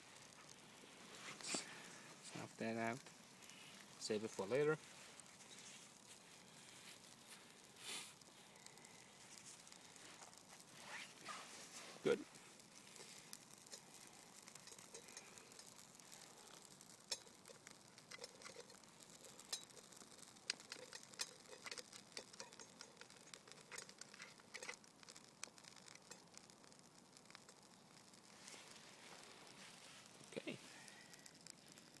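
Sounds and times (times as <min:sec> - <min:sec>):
faint fire hiss: 0:00.0 - 0:32.0
fire crackling: 0:00.0 - 0:32.0.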